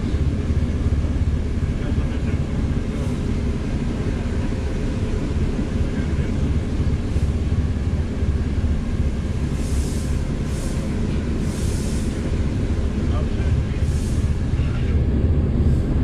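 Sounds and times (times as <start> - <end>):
railway carriage rumble: 0.0 - 16.0.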